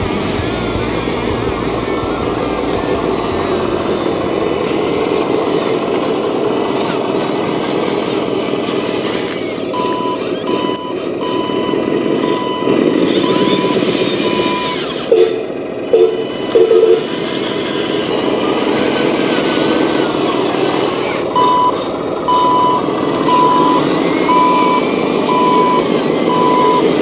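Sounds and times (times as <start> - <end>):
model truck mechanical drone: 0.0 - 27.0
reversing beeper: 0.0 - 27.0.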